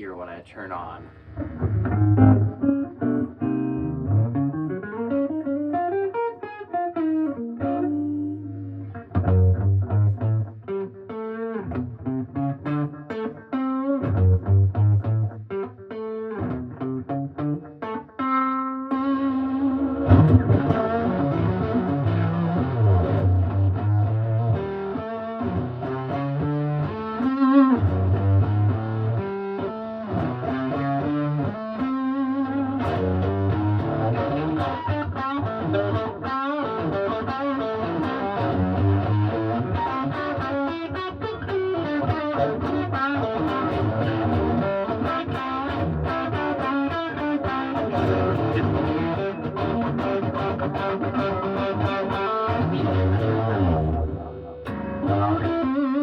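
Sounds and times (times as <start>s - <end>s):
electric guitar through amplifier: 0.0s - 56.0s.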